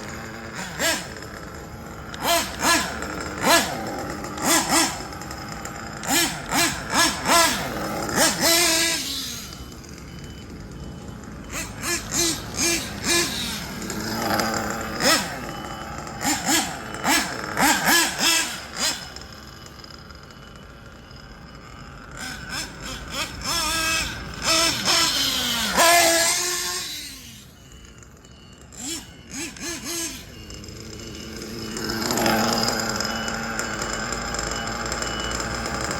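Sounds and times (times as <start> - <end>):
model engine revving: 0.0 - 35.9.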